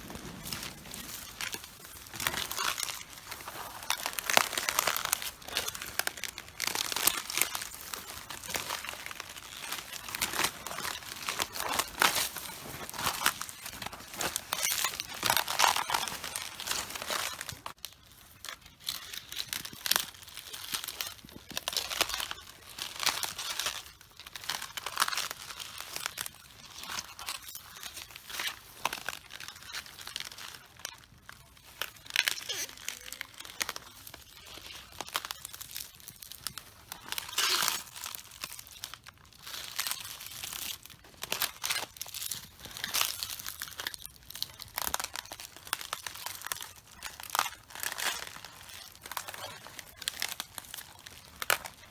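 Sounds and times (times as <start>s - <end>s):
cabbage leaves crunching underfoot: 0.0s - 51.9s.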